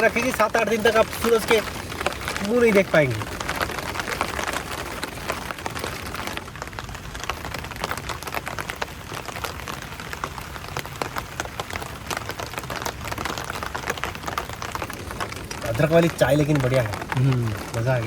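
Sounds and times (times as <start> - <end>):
rain falling: 0.0 - 18.0
raindrops hitting close by: 0.0 - 18.0.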